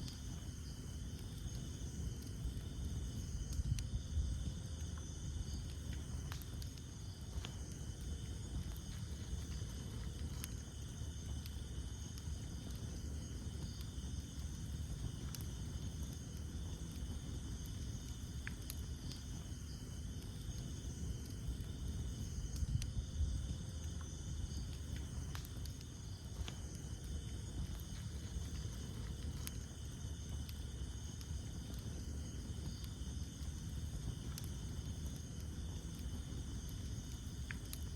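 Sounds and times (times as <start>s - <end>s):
campfire flames rumbling: 0.0s - 37.9s
night insects chorus: 0.0s - 37.9s
wood crackling pops: 0.0s - 37.9s.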